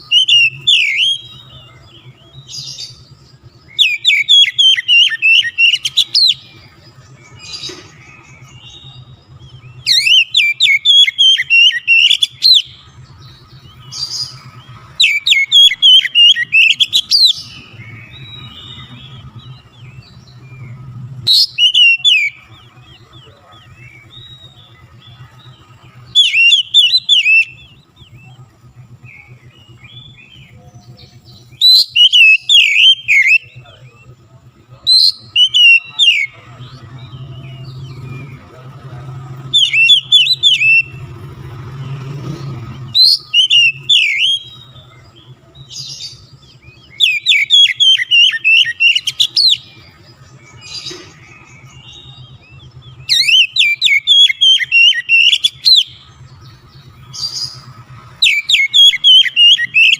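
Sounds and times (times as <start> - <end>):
bird singing chattering notes: 0.0 - 59.9.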